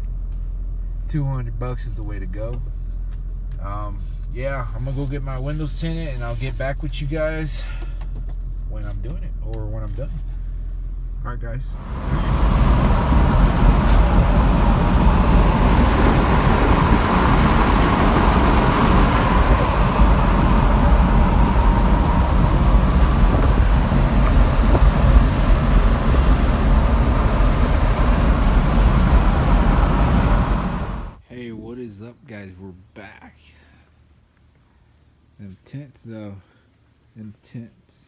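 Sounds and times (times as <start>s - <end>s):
engine tyre and road rumble in truck cab: 0.0s - 31.2s.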